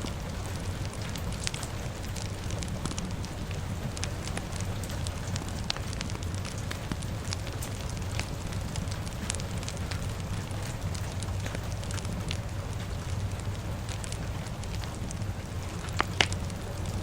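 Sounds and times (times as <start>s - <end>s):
fire crackling and popping: 0.0s - 17.0s
rain hissing: 0.0s - 17.0s.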